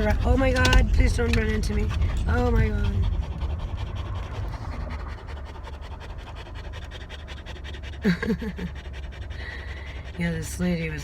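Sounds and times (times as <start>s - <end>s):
wind rumble: 0.0s - 11.0s.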